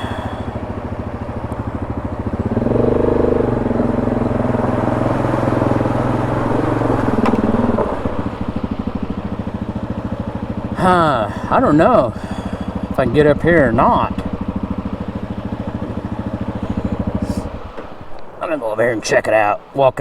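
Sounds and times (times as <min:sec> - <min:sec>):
atv engine idling and revving: 0:00.0 - 0:20.0.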